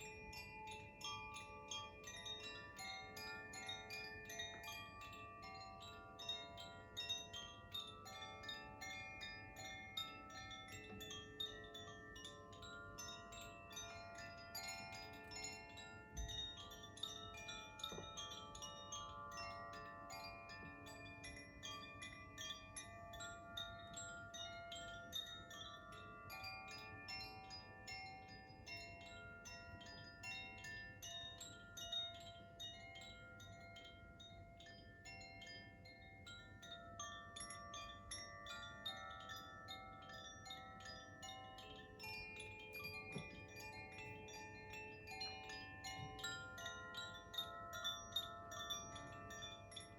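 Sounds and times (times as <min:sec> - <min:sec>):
wind chimes ringing: 0:00.0 - 0:49.9.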